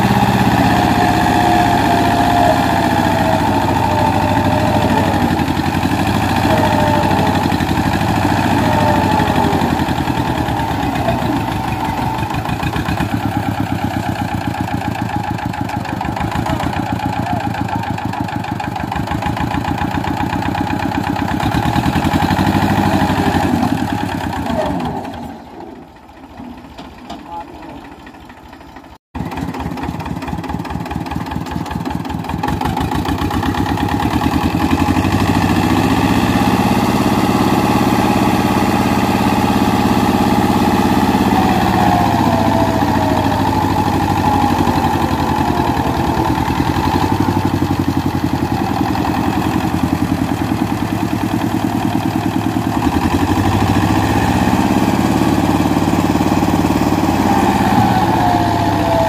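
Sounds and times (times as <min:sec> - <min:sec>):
diesel tractor engines straining: 0:00.0 - 0:59.0.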